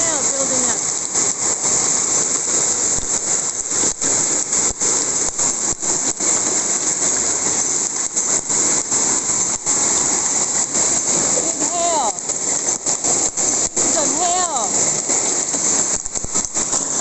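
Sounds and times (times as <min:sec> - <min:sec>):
hail pouring down: 0:00.0 - 0:17.0.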